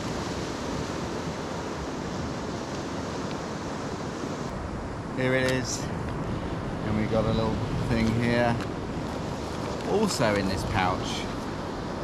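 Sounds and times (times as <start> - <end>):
sea surf: 0.0 - 12.0
wind: 0.0 - 12.0
wind buffeting microphone: 0.0 - 12.0.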